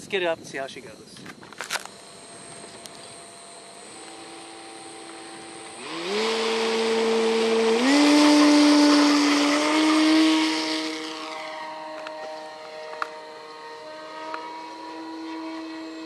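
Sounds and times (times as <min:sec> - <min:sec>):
electric motor whine with propeller: 0:01.3 - 0:16.0.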